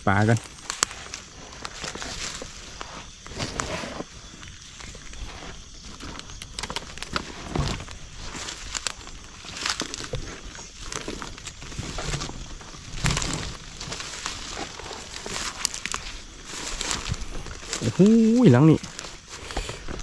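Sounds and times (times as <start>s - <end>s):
footsteps through grass and brush: 0.0s - 20.0s.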